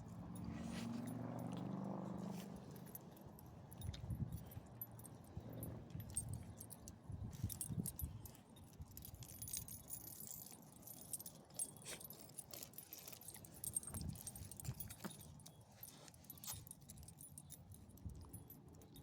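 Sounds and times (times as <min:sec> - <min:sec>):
metal dog tags jingling: 0:00.0 - 0:19.0.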